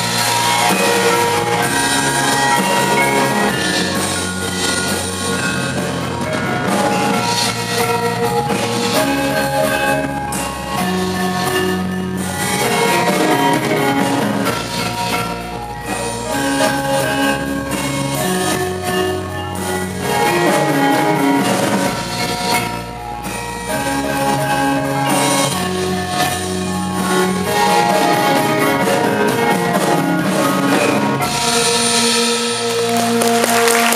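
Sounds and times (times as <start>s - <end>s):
gamelan gong-chimes and metallophones: 0.0s - 32.4s
electric bass guitar: 0.0s - 33.7s
drum kit: 0.0s - 33.9s.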